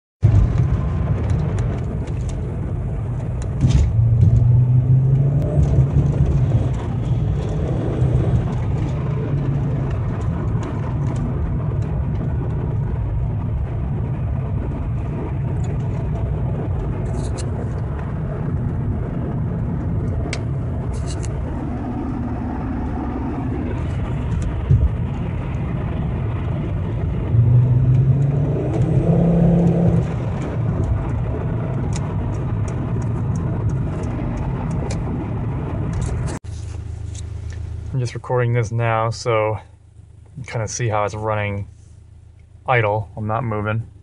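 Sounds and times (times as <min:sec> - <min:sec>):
car engine rumbling: 0:00.2 - 0:44.0.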